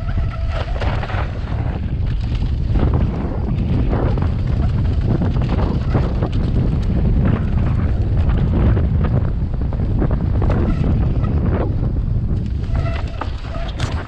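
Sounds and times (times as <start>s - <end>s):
bike rattling: 0.0s - 14.0s
wind buffeting microphone: 0.0s - 14.0s.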